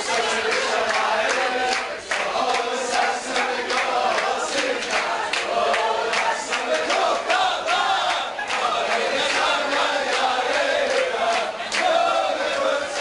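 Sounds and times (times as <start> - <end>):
men singing in unison: 0.0 - 13.0
hand clapping: 0.1 - 13.0.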